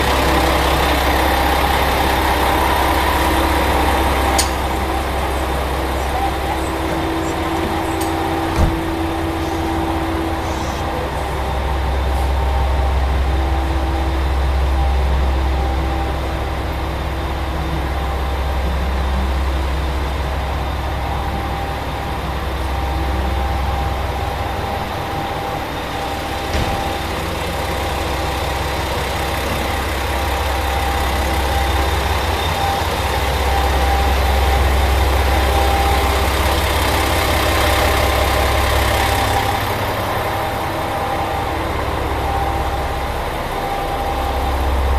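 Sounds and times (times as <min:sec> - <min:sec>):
diesel railcar engine idling: 0:00.0 - 0:44.9
steady whining tones: 0:00.0 - 0:44.9.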